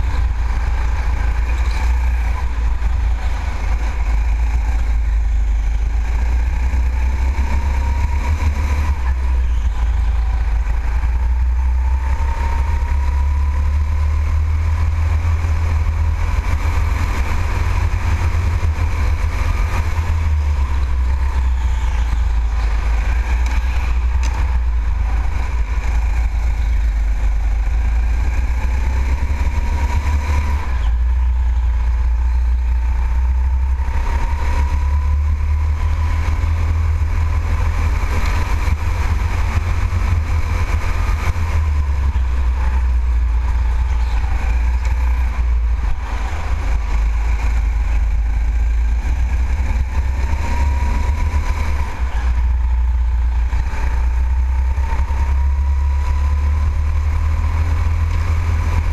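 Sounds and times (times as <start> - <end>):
go-kart engine rumble and whine: 0.0 - 58.9.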